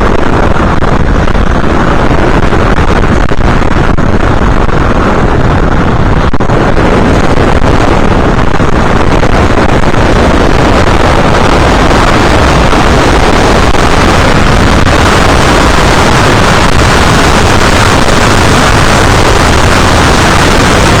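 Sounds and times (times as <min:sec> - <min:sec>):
aircraft motor running: 0:00.0 - 0:21.0
loud wind rush: 0:00.0 - 0:21.0.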